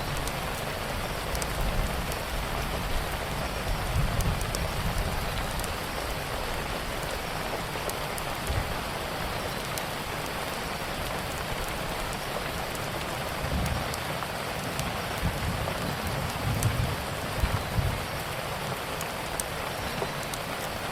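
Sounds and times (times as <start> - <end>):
rain falling: 0.0 - 20.9
wood fire crackling: 0.0 - 20.9.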